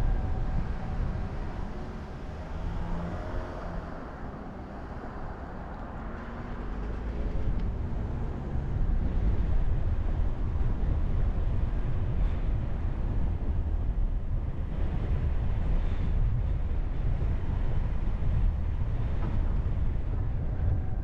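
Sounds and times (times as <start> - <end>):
car engine rumble: 0.0 - 21.0
tyre road noise: 0.0 - 21.0.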